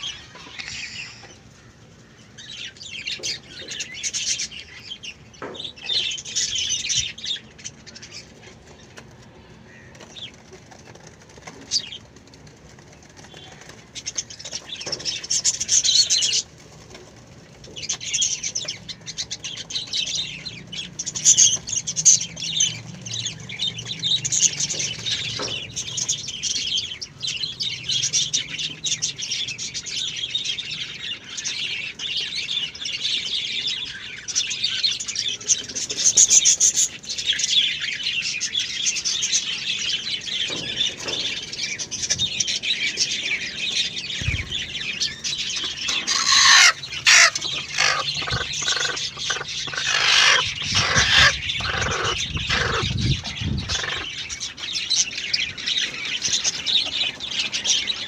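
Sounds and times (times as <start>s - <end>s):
lovebirds chattering and screeching: 0.0s - 58.0s.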